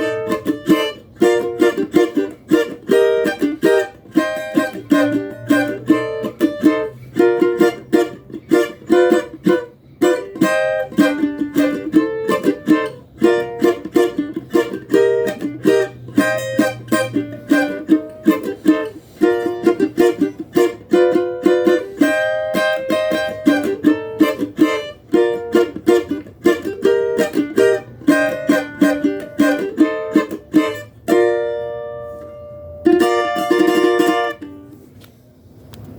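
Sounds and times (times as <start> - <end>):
small guitar strummed chords: 0.0 - 34.9.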